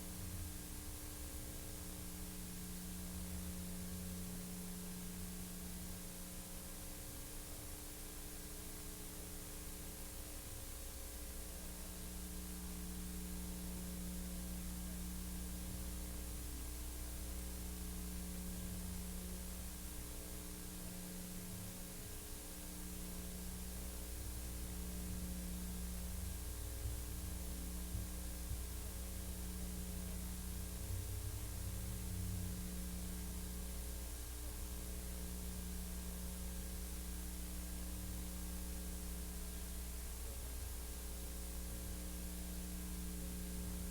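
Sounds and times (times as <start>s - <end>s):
low mains hum: 0.0s - 43.9s.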